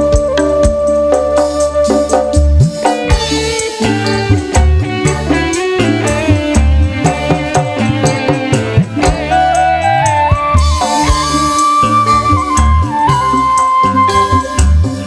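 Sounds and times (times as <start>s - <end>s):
loud music through pa system: 0.0s - 15.0s.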